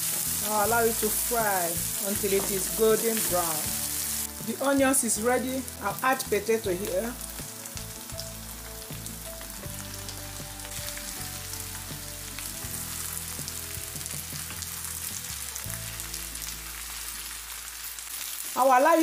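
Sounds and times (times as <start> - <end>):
potatoes sizzling in frying pan: 0.0 - 19.0.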